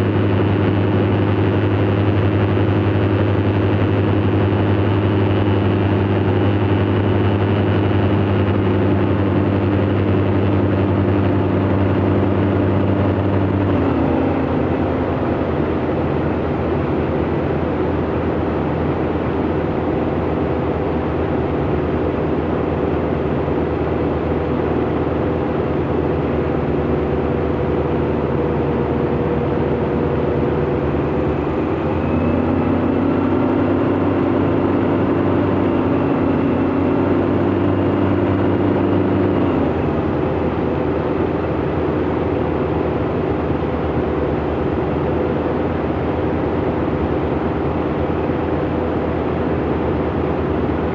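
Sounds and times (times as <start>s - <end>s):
light aircraft engine: 0.0s - 50.9s.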